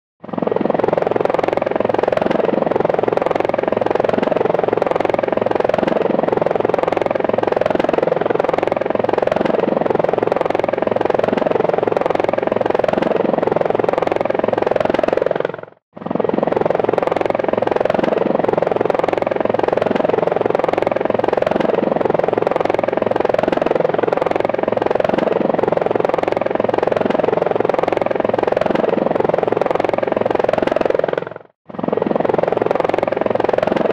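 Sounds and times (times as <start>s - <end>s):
helicopter hovering: 0.2s - 33.9s.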